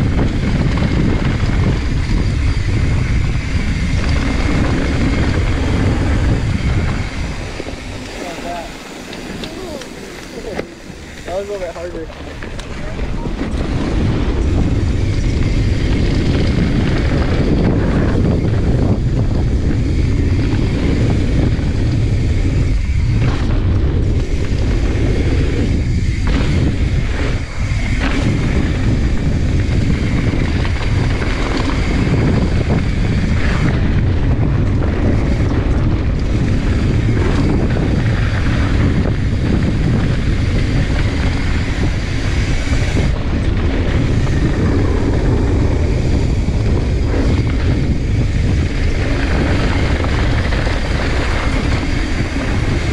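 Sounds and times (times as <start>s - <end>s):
bike tyres on dirt trail: 0.0s - 52.9s
wind buffeting microphone: 0.0s - 52.9s.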